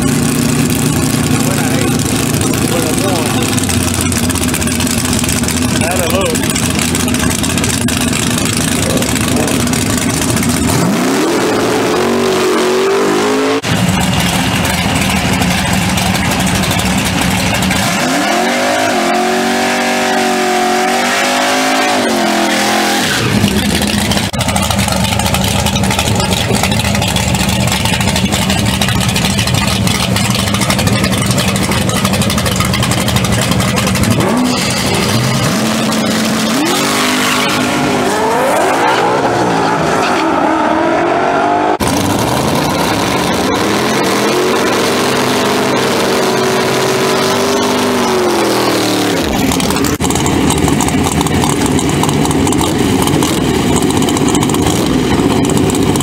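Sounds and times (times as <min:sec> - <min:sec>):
drag racing engines idling: 0:00.0 - 0:12.5, 0:13.2 - 0:20.9, 0:21.9 - 0:40.0, 0:41.7 - 0:56.0
engine revving up: 0:00.0 - 0:15.4, 0:17.1 - 0:26.7, 0:30.7 - 0:56.0
tyres spinning in burnout: 0:00.0 - 0:56.0.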